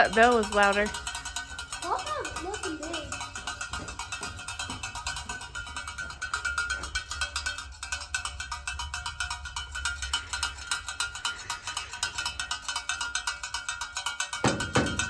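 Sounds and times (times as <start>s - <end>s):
bell clanging rapidly: 0.0s - 15.0s.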